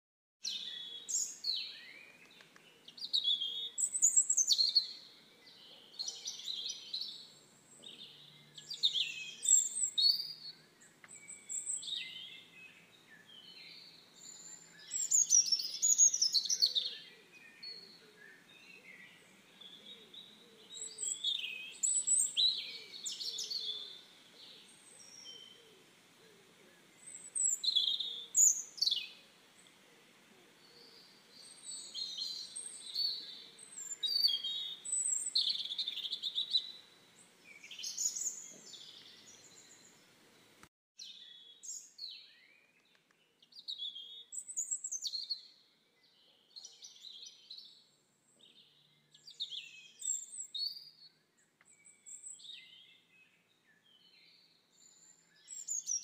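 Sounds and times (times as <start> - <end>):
birds chirping: 0.4 - 45.6.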